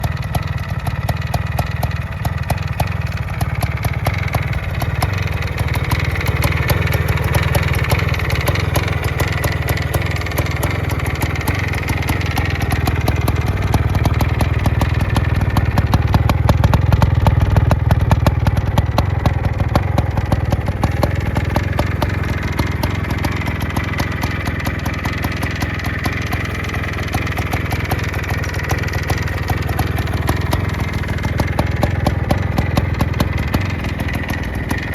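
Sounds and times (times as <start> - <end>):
two-stroke engine running: 0.0 - 34.9.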